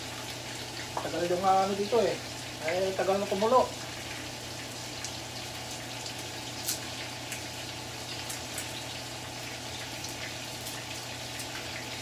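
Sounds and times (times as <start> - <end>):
food crackling in a pan: 0.0 - 12.0.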